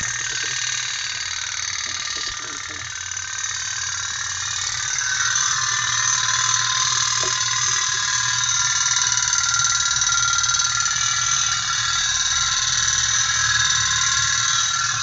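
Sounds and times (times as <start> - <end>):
low hum: 0.0 - 15.0
steam toy boat buzzing rattle: 0.0 - 15.0.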